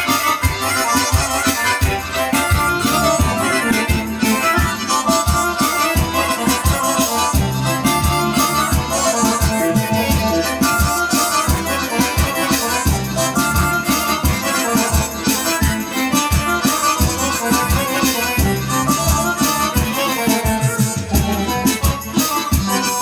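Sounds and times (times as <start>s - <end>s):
drum and bass accompaniment: 0.0s - 23.0s
keyboard lead melody: 0.0s - 23.0s.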